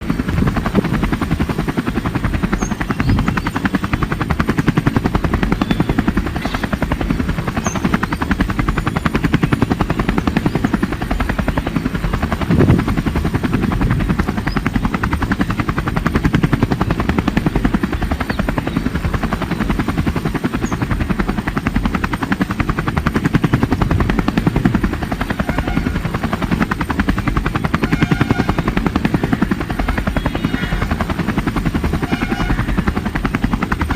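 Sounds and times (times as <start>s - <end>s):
helicopter rotor chopping: 0.0s - 33.9s.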